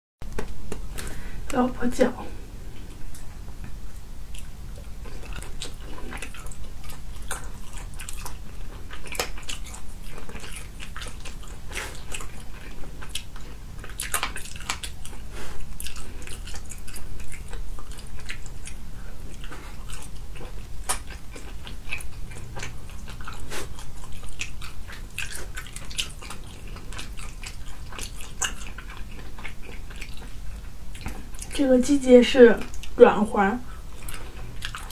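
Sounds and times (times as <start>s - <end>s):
biting and chewing food: 2.7s - 31.7s, 32.6s - 33.0s, 33.7s - 34.9s.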